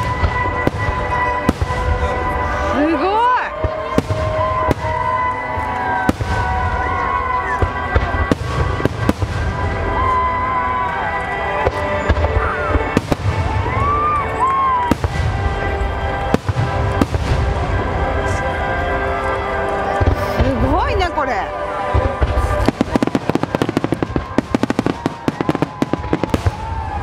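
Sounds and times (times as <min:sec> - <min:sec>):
firework bangs: 0:00.0 - 0:18.5, 0:21.7 - 0:27.0.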